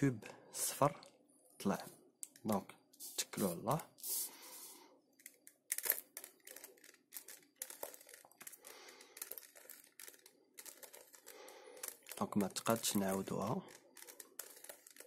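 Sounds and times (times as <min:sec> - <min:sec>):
puzzle cube clicking and scraping: 0:02.4 - 0:15.0.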